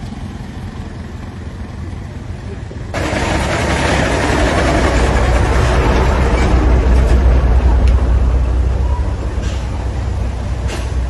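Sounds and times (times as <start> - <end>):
heavy vehicle engine drone: 0.0 - 11.0
road noise: 0.0 - 11.0.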